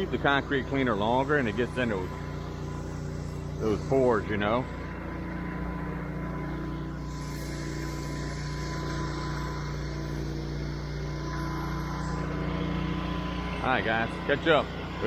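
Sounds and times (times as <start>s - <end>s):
pressure washer engine running: 0.0s - 15.0s.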